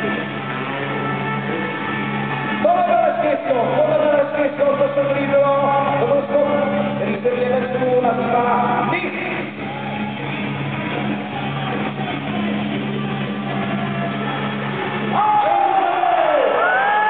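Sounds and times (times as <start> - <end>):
rock music: 0.0 - 16.1.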